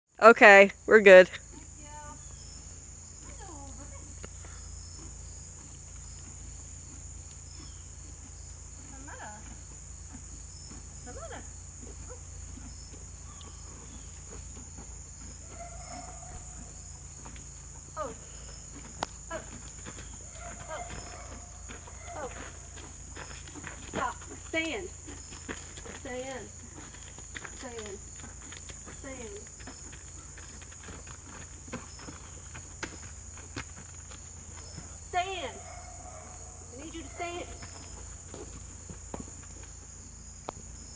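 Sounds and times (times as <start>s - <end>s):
high-pitched insect chorus: 0.6s - 40.9s.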